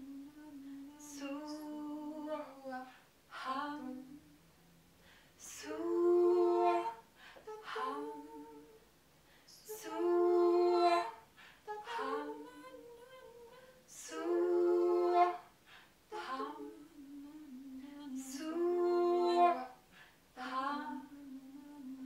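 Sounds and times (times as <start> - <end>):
women singing wordless tones: 0.0 - 4.4, 5.4 - 8.9, 9.5 - 22.0
soft hummed tones: 0.0 - 22.0.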